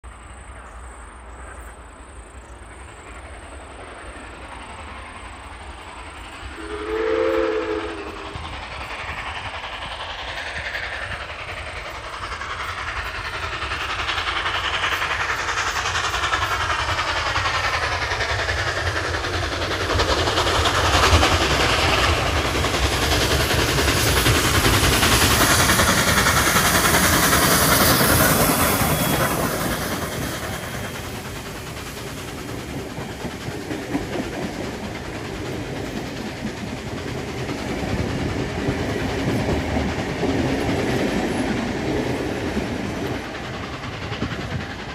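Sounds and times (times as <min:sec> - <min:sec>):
steam locomotive running past: 0:00.0 - 0:44.9
train wheels clacking over rail joints: 0:01.4 - 0:44.9.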